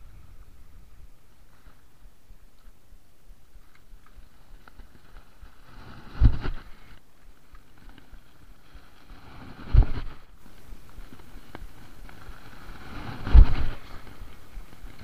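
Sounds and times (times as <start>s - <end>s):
low outdoor hiss: 0.0s - 15.0s
wind rumbling on microphone: 0.0s - 15.0s.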